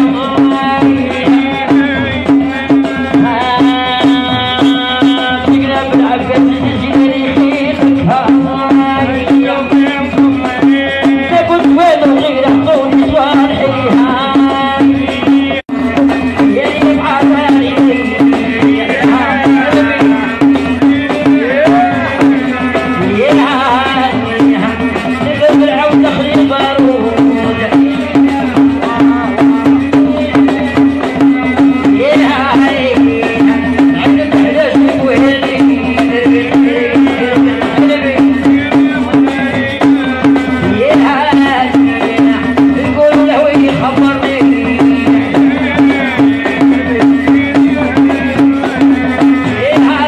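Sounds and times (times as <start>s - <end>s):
hand-struck frame drum beat: 0.0s - 50.0s
woman singing into a microphone: 0.0s - 50.0s.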